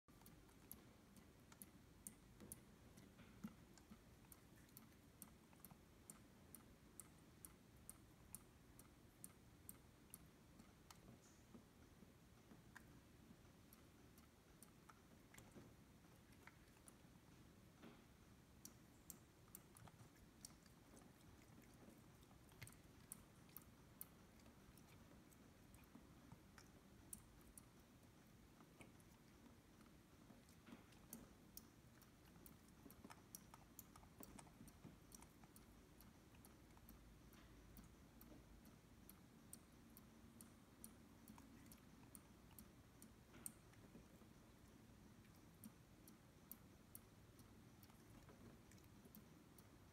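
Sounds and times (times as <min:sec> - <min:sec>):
cat drinking with wet clicks: 0:00.1 - 0:49.9
faint low hum: 0:00.1 - 0:49.9
water dripping from faucet: 0:00.1 - 0:49.9.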